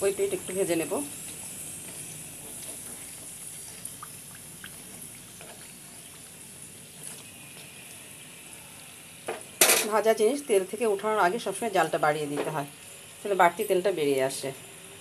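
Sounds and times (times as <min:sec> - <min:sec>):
oil sizzling: 0:00.0 - 0:15.0.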